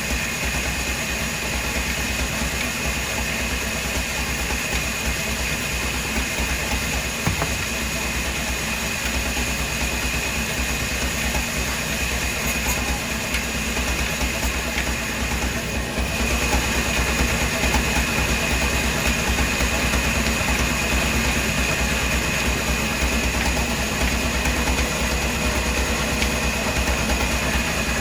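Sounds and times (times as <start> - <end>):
machinery rumbling: 2.6 - 28.0.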